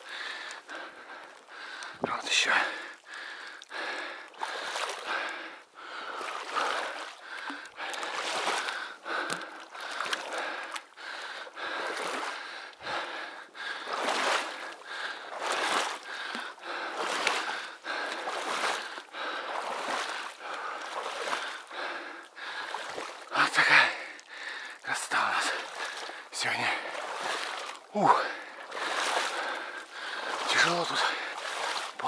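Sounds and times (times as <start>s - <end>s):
water sloshing from wading: 0.0s - 32.0s.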